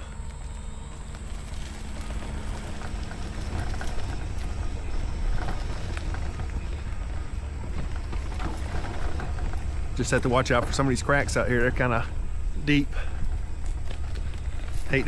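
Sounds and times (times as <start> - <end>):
low motor hum: 0.0 - 15.0
wheelchair rolling over rough ground: 0.0 - 15.0.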